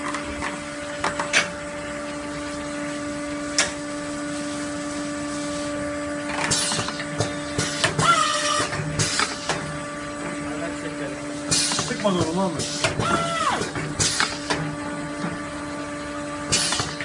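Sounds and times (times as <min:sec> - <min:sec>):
conveyor mechanical hum: 0:00.0 - 0:17.0.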